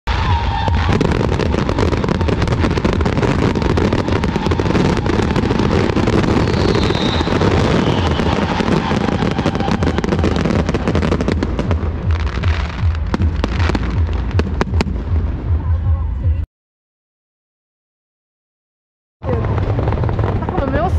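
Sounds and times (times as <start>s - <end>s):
fireworks bursting and crackling: 0.1s - 15.6s, 19.2s - 20.9s.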